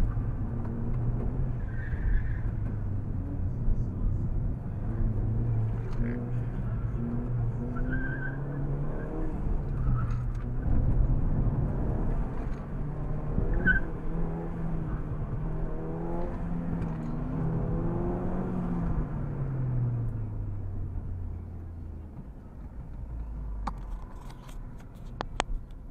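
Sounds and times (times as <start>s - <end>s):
car engine revving: 0.0s - 21.8s.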